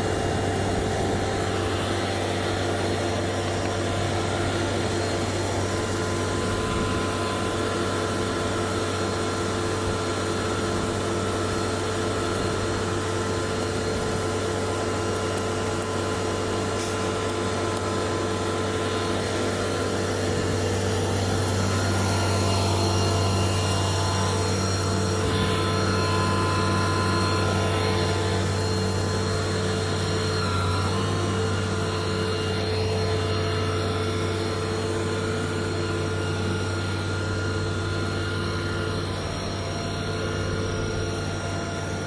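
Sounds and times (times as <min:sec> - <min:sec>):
concrete pump engine drone: 0:00.0 - 0:42.0.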